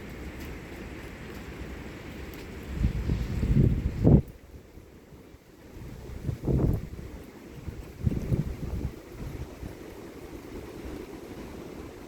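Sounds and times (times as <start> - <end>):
rain hissing: 0.0 - 12.0
wind: 0.0 - 12.0
wind gust buffeting microphone: 1.5 - 4.9, 5.6 - 12.0.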